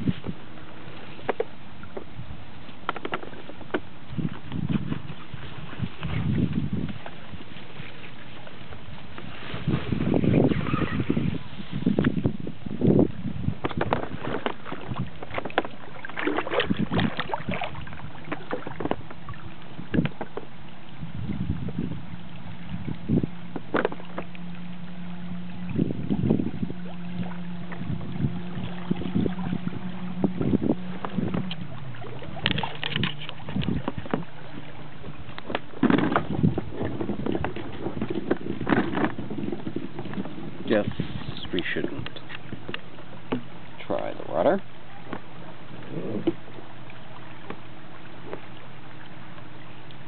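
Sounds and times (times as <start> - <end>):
kayak paddle splashing in water: 0.0 - 50.0
steady water noise: 0.0 - 50.0.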